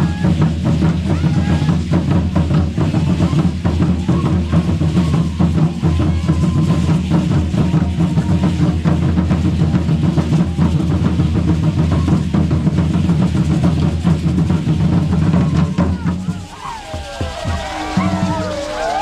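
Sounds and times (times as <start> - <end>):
fast steady drumming: 0.0 - 19.0.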